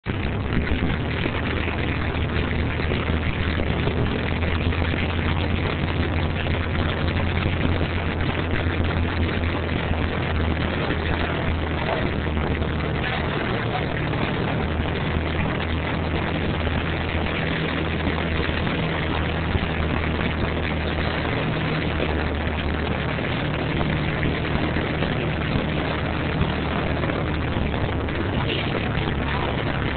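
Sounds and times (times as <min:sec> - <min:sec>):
constant hiss: 0:00.0 - 0:29.9
low steady drone: 0:00.0 - 0:29.9.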